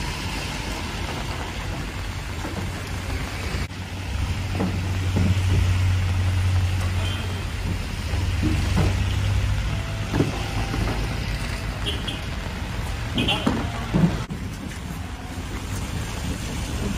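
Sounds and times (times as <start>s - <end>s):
rain hissing on wet street: 0.0s - 16.9s
vehicle engine hum: 0.0s - 16.9s.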